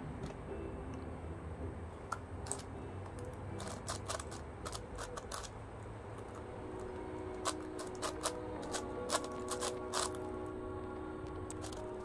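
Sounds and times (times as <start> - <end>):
puzzle layers clicking: 2.1 - 12.0.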